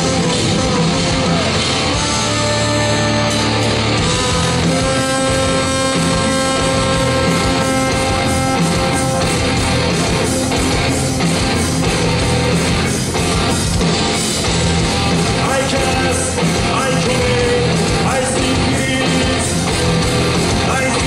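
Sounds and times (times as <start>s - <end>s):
loud electric guitars: 0.0s - 21.0s
rock band playing live: 0.0s - 21.0s.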